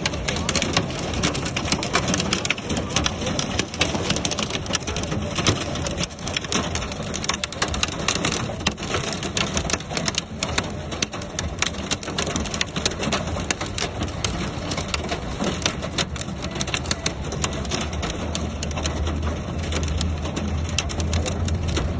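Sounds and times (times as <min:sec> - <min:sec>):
heavy rain on a car: 0:00.0 - 0:21.9.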